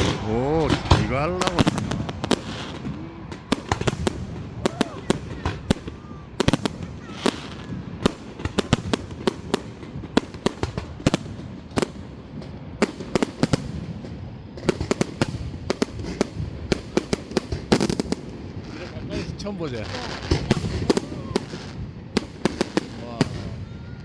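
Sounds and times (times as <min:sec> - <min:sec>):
fireworks bursting with echoes: 0:00.0 - 0:24.0.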